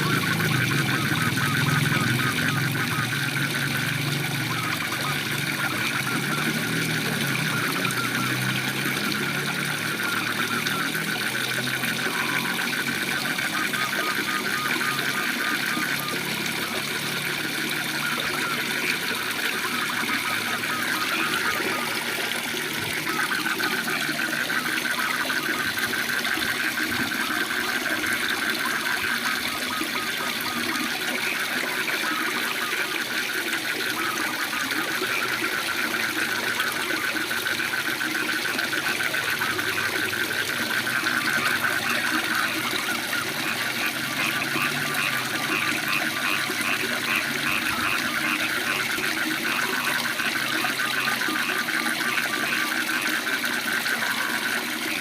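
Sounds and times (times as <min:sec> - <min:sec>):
frogs calling: 0:00.0 - 0:55.0
waterfall running: 0:00.0 - 0:55.0.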